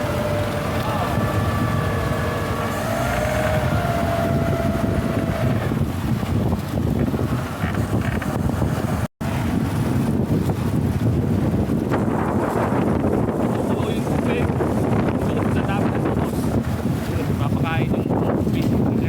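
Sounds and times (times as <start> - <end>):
boat engine rumbling: 0.0 - 19.0
wind buffeting microphone: 0.0 - 19.0.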